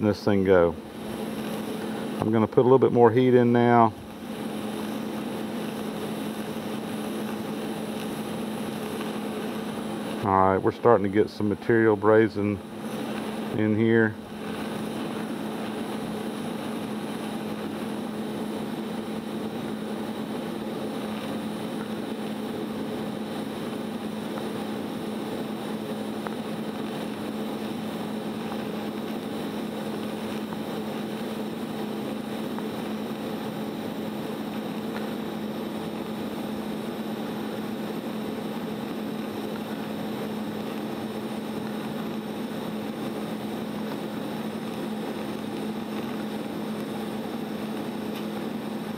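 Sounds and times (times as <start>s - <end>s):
welding arc buzzing hiss: 0.0s - 48.9s.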